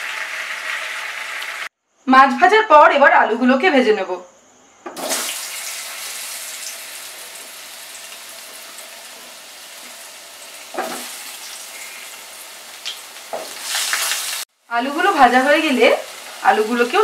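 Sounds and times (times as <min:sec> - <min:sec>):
potatoes sizzling in hot oil: 0:00.0 - 0:01.7, 0:05.0 - 0:17.0.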